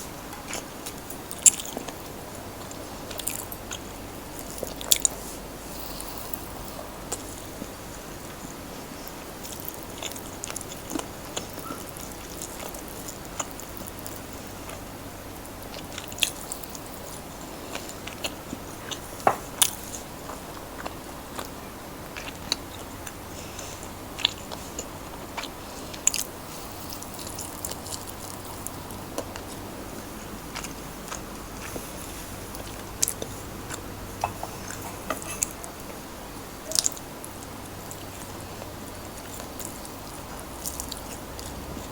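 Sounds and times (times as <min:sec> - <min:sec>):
person chewing: 0:00.3 - 0:36.0, 0:36.6 - 0:41.9.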